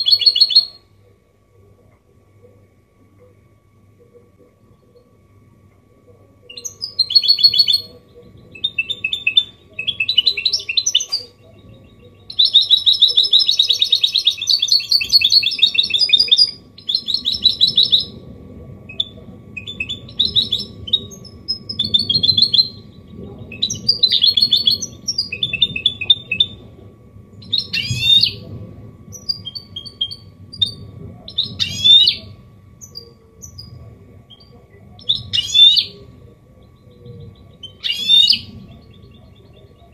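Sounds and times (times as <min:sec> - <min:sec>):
bird singing trills: 0:00.0 - 0:00.9, 0:06.5 - 0:18.2, 0:18.9 - 0:26.6, 0:27.4 - 0:28.5, 0:29.1 - 0:39.9
faint steady hum: 0:00.0 - 0:39.9.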